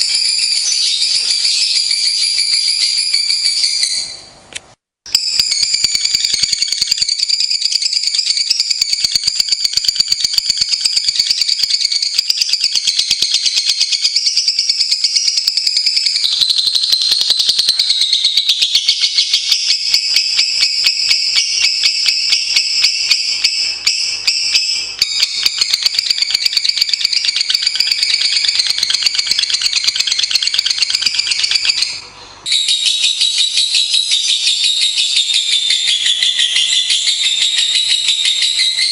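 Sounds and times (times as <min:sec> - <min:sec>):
lovebird chattering song: 0:00.0 - 0:04.3, 0:05.1 - 0:38.9.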